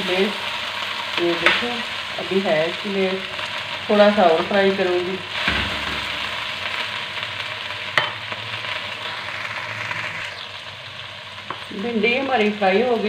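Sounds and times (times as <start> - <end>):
okra sizzling in oil: 0.0 - 13.0.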